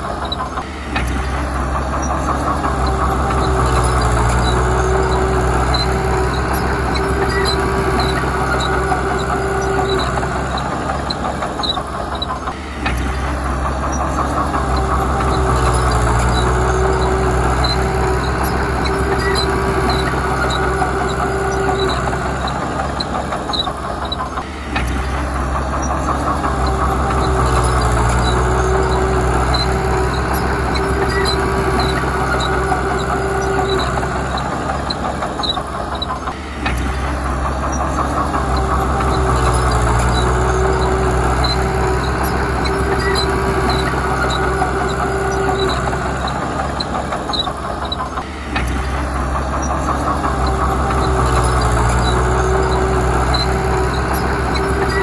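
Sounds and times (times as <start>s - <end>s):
heavy diesel machinery under load: 0.0s - 55.0s
steady whine: 0.0s - 55.0s.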